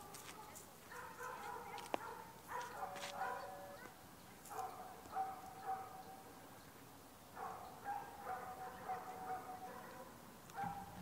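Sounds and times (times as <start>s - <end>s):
dog barking: 0.3s - 3.9s, 4.5s - 6.2s, 7.4s - 11.0s.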